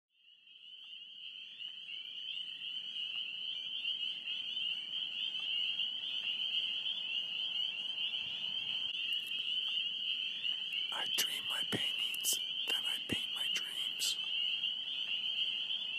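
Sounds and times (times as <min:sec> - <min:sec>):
chorus of frogs calling: 0:00.6 - 0:15.9.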